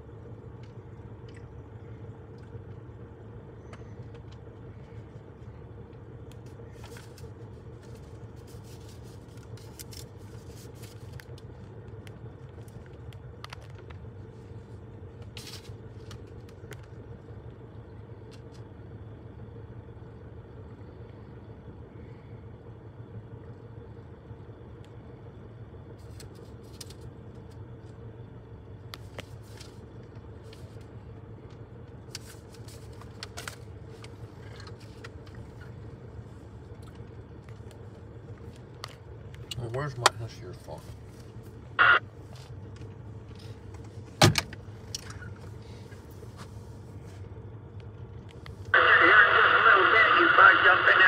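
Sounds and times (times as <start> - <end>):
vehicle engine hum: 0.0 - 51.0.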